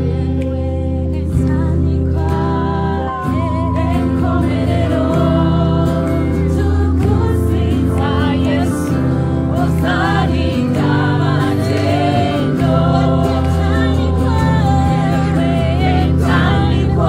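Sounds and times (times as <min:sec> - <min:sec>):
sustained bass notes: 0:00.0 - 0:17.0
voices singing gospel music: 0:00.0 - 0:17.0.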